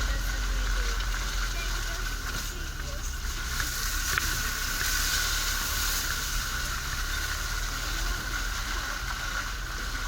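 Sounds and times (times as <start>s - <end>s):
off-road vehicle engine rumble: 0.0s - 10.0s.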